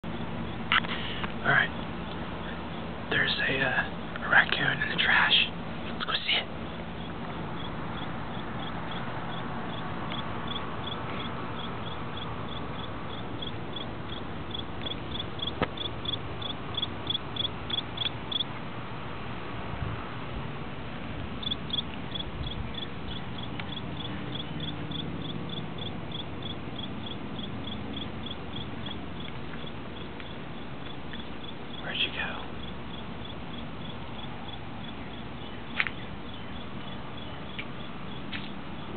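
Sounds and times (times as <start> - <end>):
cricket chirping: 0.0 - 18.5, 21.4 - 38.9.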